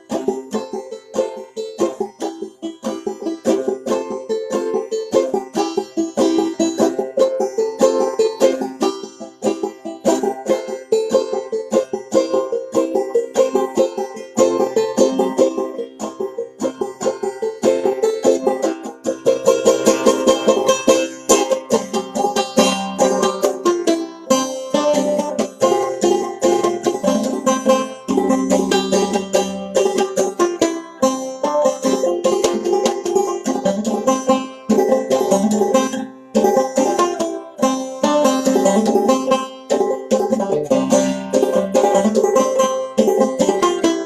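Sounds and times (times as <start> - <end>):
banjo playing: 0.0 - 44.0.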